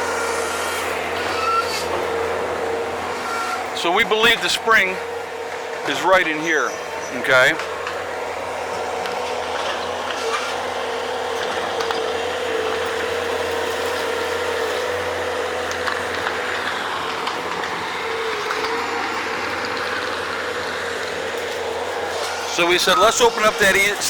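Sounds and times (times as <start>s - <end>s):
skid-steer loader mechanical drone: 0.0s - 24.0s
steady high whine: 0.0s - 24.0s.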